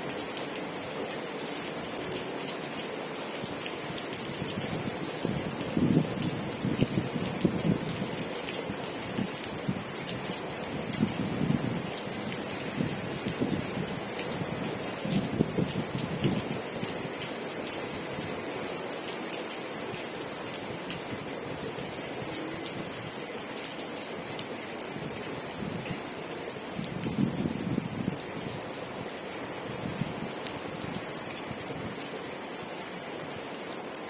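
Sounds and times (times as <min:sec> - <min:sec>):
steady rain hissing: 0:00.0 - 0:34.0.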